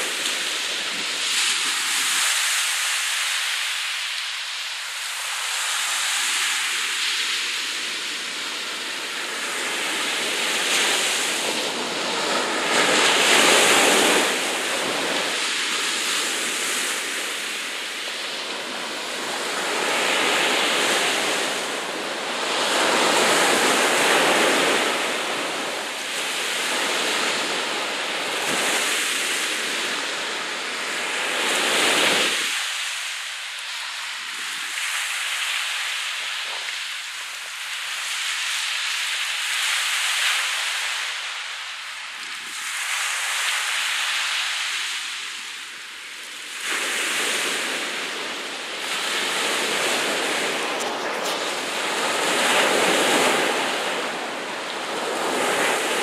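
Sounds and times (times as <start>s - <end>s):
sea waves washing and breaking: 0.0s - 56.0s.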